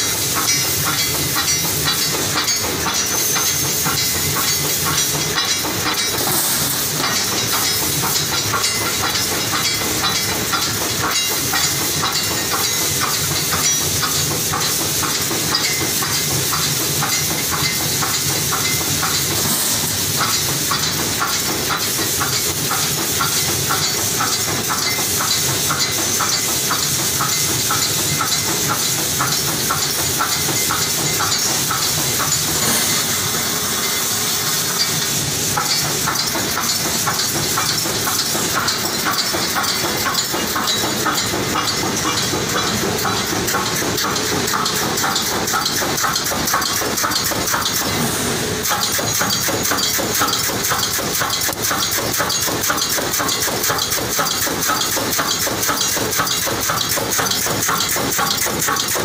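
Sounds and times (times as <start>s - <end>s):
compressed air hissing: 0.0s - 58.9s
welding machine clattering: 0.0s - 59.0s.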